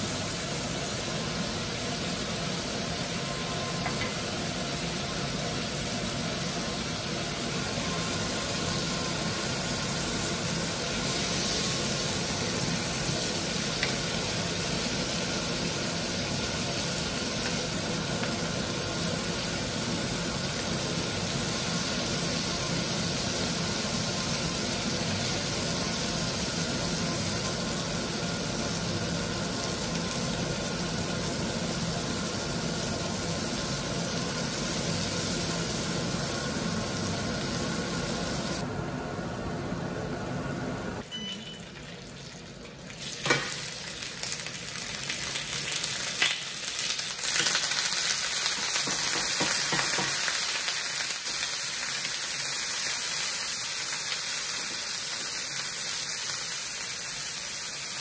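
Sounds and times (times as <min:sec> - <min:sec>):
food sizzling in a pan: 0:00.0 - 0:38.7, 0:41.6 - 0:58.0
steady mechanical hum: 0:00.0 - 0:58.0.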